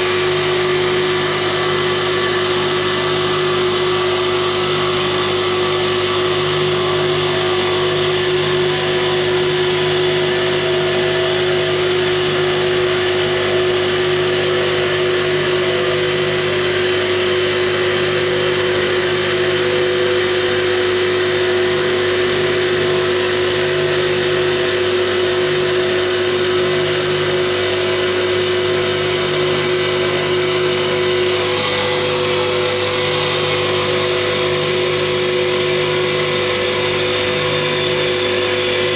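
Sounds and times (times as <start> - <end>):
motor whine: 0.0 - 38.9.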